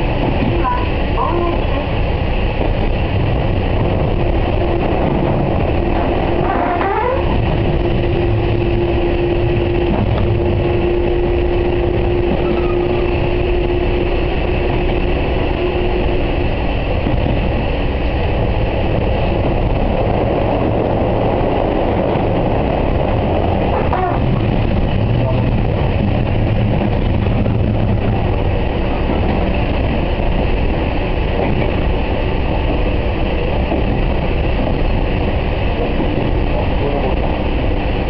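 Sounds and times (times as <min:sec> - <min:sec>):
steady hum: 0:00.0 - 0:38.0
train wheels rumbling on rail: 0:00.0 - 0:38.0.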